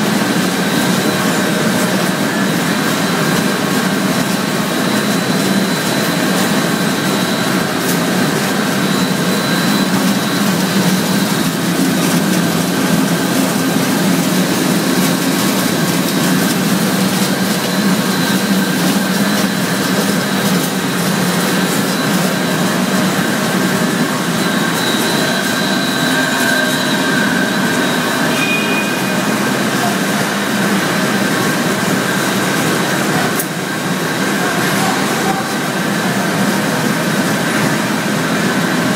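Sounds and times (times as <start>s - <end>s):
flaking mill machine noise: 0.0s - 38.9s.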